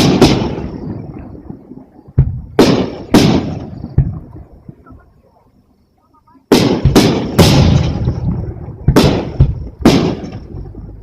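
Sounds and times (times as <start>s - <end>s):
fireworks bursting with rumbling echo: 0.0s - 5.1s, 6.3s - 11.0s.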